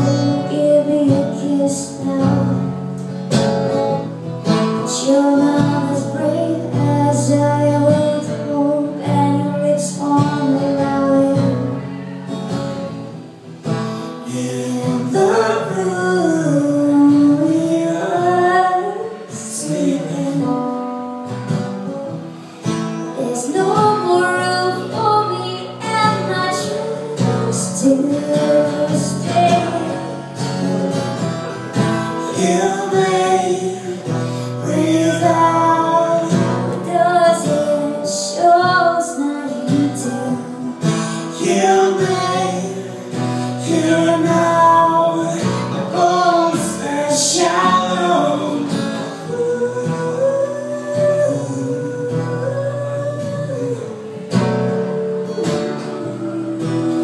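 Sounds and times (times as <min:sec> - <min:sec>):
woman singing: 0:00.0 - 0:02.8, 0:04.5 - 0:12.1, 0:14.3 - 0:21.0, 0:23.0 - 0:30.5, 0:32.1 - 0:57.0
strummed guitar: 0:00.0 - 0:57.0.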